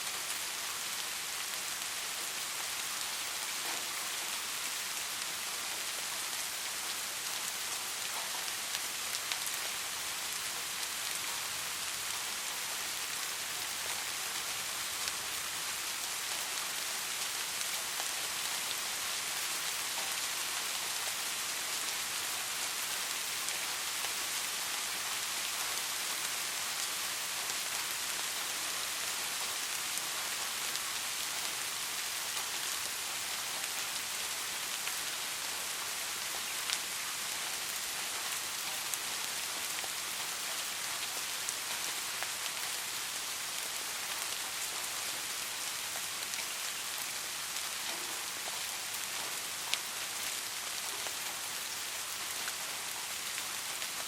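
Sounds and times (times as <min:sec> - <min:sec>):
soft rain hiss: 0:00.0 - 0:54.0.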